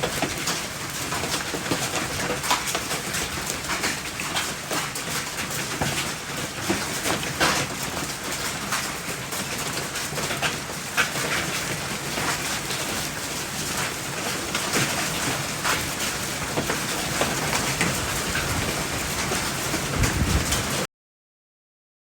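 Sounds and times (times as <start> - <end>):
hailstones cracking on hard surfaces: 0.0 - 20.8
hail and rain hissing: 0.0 - 20.9.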